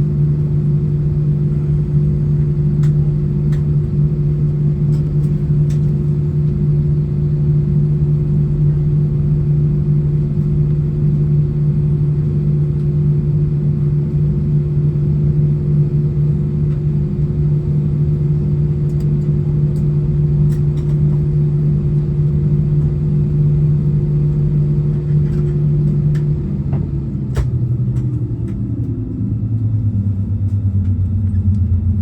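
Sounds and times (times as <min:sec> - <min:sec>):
low aircraft cabin drone: 0:00.0 - 0:32.0.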